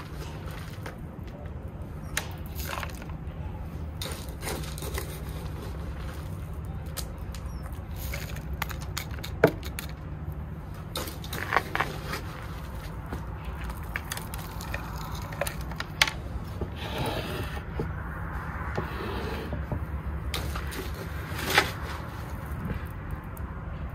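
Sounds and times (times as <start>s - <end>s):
soil rustling and scraping: 0.0s - 19.7s, 20.3s - 23.1s.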